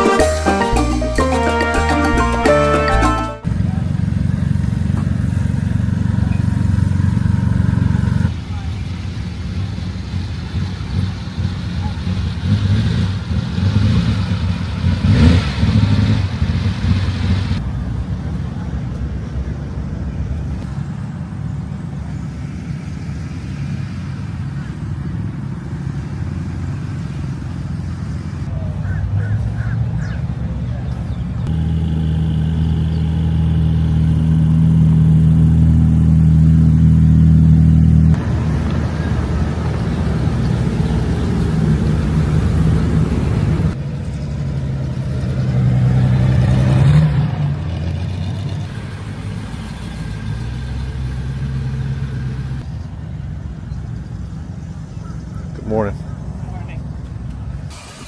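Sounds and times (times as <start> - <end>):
car engines running past: 3.4 - 58.0.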